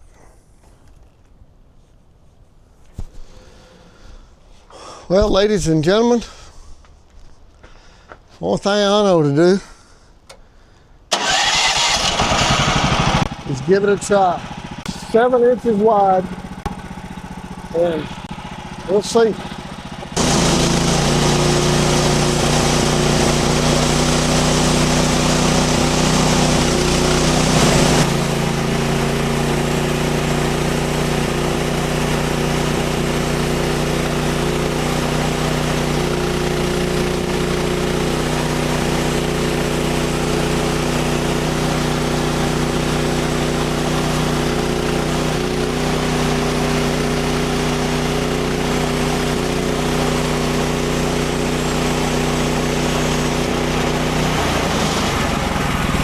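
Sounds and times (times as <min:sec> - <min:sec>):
bandsaw sawmill cutting log: 0:11.1 - 0:56.0.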